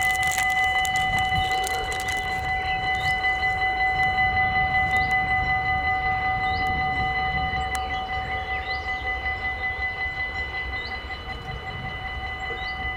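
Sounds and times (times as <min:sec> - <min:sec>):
electric train whine: 0:00.0 - 0:12.9
train low rumble: 0:00.0 - 0:12.9.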